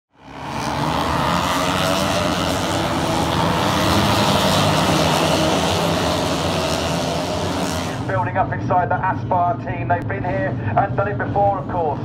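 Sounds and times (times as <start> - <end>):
motorcycle engines running: 0.1 - 11.9.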